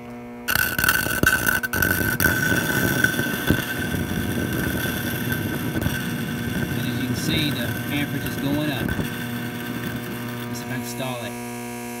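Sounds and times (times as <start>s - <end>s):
blade grinding on a wheel: 0.5s - 11.5s
electric motor humming: 0.5s - 12.0s.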